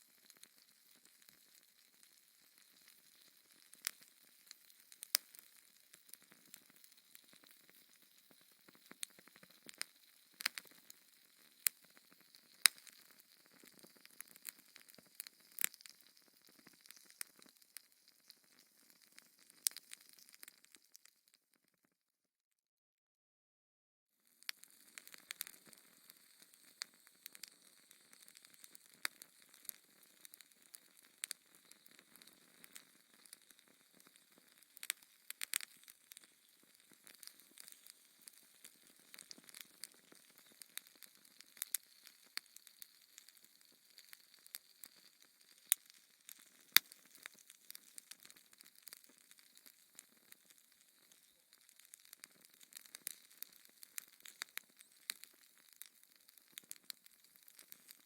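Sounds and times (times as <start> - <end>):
wood fire crackling: 0.0 - 21.1, 24.4 - 58.0.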